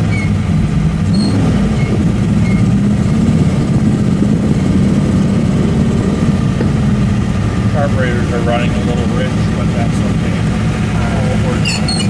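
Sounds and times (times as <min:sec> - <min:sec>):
car engine running at low speed: 0:00.0 - 0:12.0.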